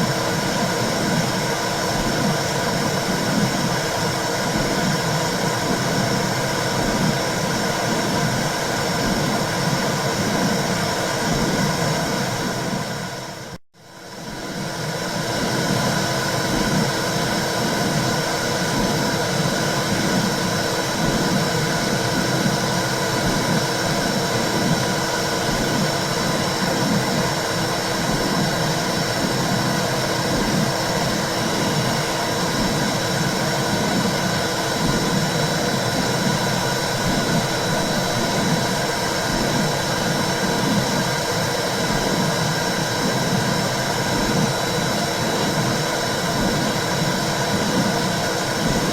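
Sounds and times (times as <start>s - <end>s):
low pulsing heartbeat throb: 0.1s - 12.9s, 14.2s - 48.9s.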